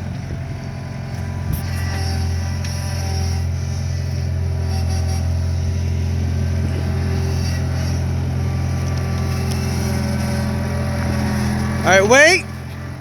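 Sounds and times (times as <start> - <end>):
loader engine droning: 0.0 - 13.0.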